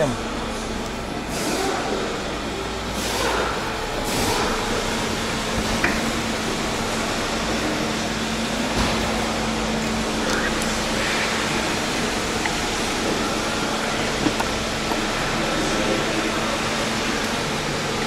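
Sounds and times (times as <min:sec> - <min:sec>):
workshop background hum: 0:00.0 - 0:18.0.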